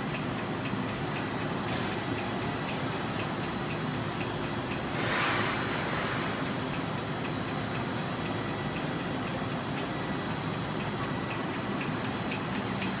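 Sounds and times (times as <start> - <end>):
faint regular ticking: 0.0 - 4.9, 6.6 - 13.0
packaging line machinery running: 0.0 - 13.0.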